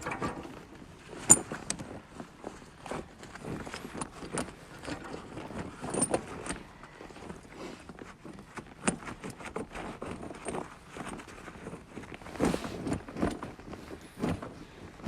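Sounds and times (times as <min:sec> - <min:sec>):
tire chain clinking and rattling: 0:00.0 - 0:12.1.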